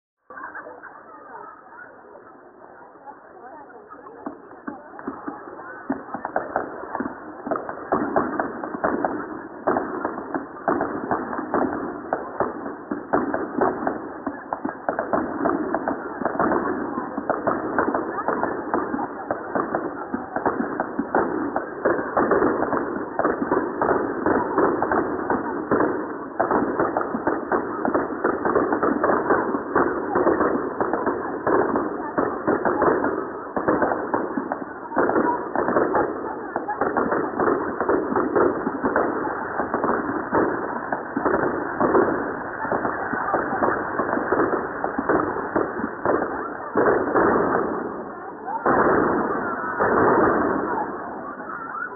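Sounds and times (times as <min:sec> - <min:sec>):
fireworks crackling and banging: 0:00.3 - 0:51.9.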